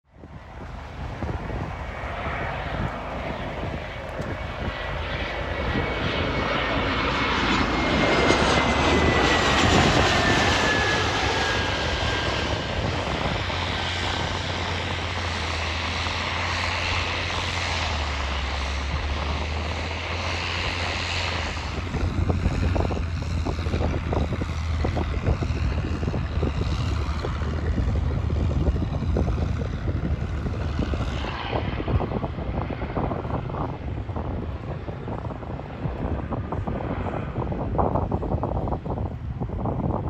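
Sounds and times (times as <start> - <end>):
high engine whine: 0.1 - 40.0
jet aircraft engines passing: 0.1 - 40.0.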